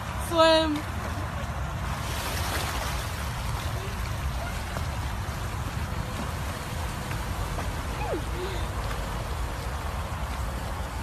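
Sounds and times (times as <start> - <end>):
fountain spraying water: 0.0 - 11.0
swimmer splashing: 0.0 - 11.0.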